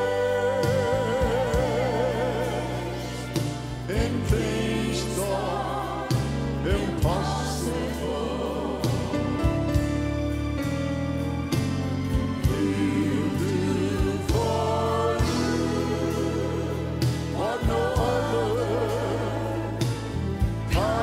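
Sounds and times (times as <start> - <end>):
bass: 0.0 - 21.0
drums: 0.0 - 21.0
gospel choir singing: 0.0 - 21.0
piano: 0.0 - 21.0.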